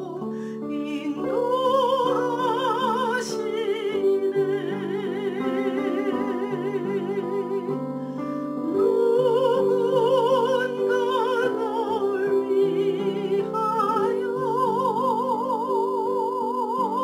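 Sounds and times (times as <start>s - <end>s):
soprano singing with vibrato: 0.0s - 17.0s.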